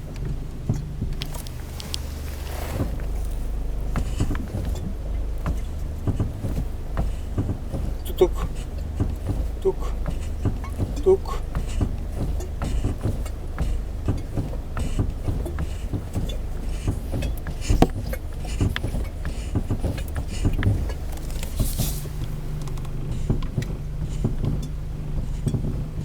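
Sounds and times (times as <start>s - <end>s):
brake pads knocking and crunching: 0.0s - 26.0s
road and engine rumble: 0.0s - 26.0s.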